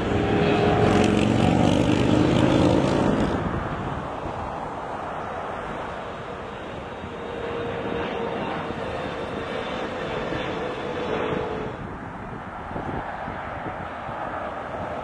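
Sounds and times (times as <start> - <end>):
aircraft engine rushing: 0.0 - 15.0
aircraft engine whine: 0.0 - 15.0.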